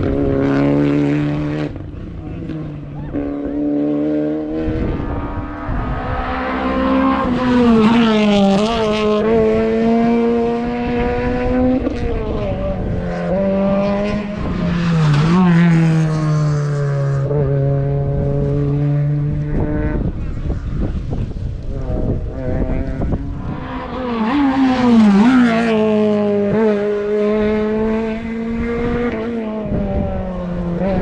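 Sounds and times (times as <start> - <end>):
race car engine revving hard: 0.0 - 20.8, 21.7 - 31.0.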